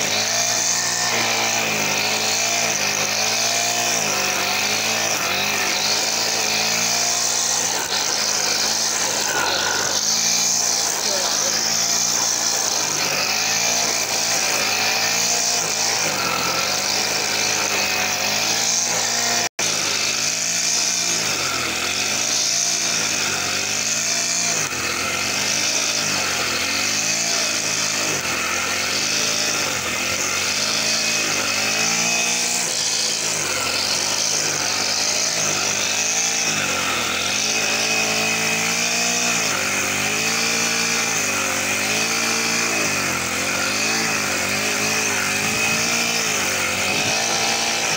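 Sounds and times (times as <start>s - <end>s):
brush cutter cutting grass: 0.0s - 47.9s.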